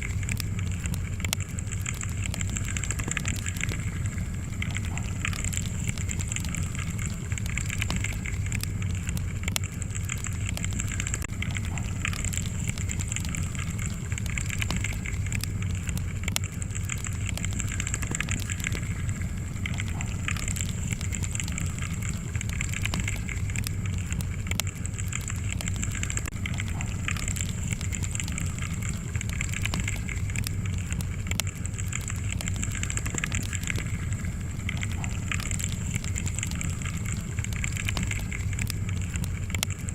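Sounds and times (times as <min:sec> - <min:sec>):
low rumble of burning logs: 0:00.0 - 0:39.9
wood fire crackling: 0:00.0 - 0:39.9.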